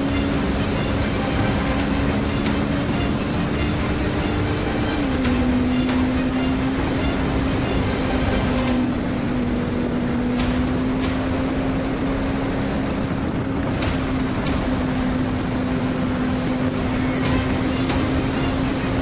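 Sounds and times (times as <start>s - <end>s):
racing motorcycle engines: 0.0s - 19.0s
road and wind noise: 0.0s - 19.0s.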